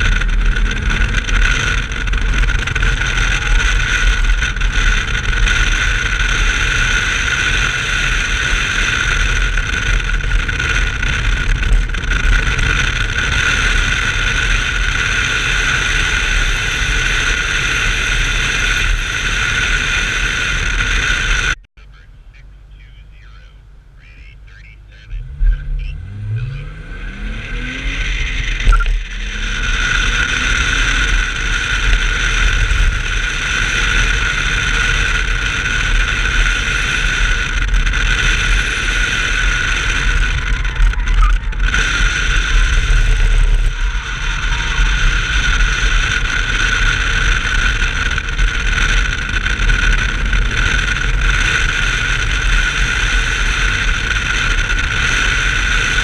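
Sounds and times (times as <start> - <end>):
car engine pulling hard: 0.0 - 56.0
high whine: 0.0 - 56.0.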